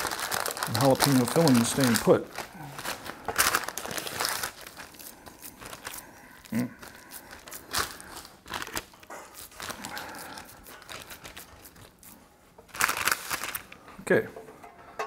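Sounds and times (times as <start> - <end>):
meat squishing: 0.0 - 13.8
paper crinkling: 0.0 - 13.8.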